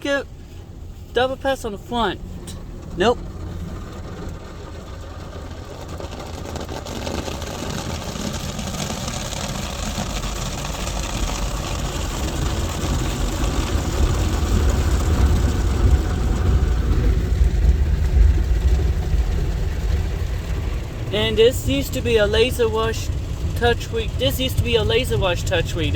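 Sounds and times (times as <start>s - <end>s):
car wash rushing water: 0.0s - 25.9s
low rumble: 0.0s - 25.9s.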